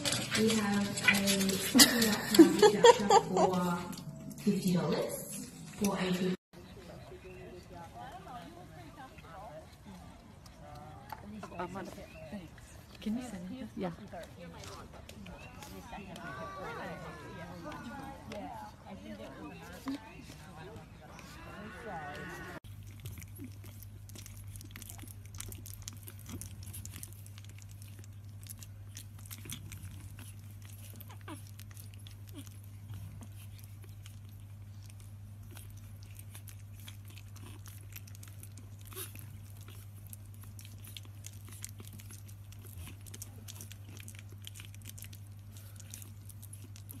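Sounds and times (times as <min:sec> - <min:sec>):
puppies chewing with wet clicks: 0:00.0 - 0:04.8, 0:05.4 - 0:22.0, 0:22.6 - 0:47.0
steady low hum: 0:00.0 - 0:47.0.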